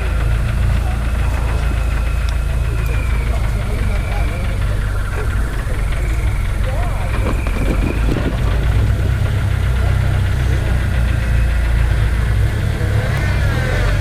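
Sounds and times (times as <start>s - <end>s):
vehicle engine low rumble: 0.0s - 14.0s.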